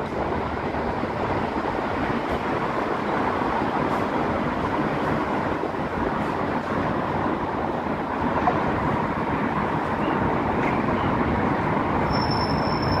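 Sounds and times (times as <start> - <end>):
distant traffic noise: 0.0 - 13.0.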